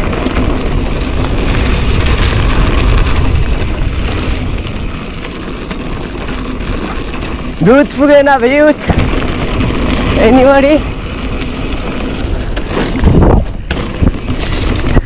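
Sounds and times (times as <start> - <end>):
wind on microphone: 0.0 - 8.0, 8.8 - 15.0
bike tyres rolling on dirt: 0.0 - 15.0.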